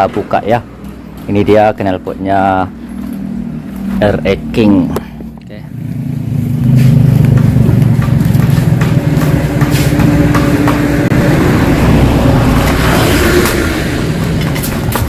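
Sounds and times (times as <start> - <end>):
loud engine running: 2.8 - 15.0.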